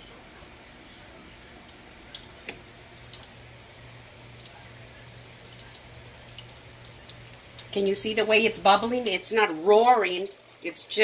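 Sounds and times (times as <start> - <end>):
oil bubbling in deep fryer: 0.1 - 11.0
crackles and pops of frying: 0.9 - 11.0.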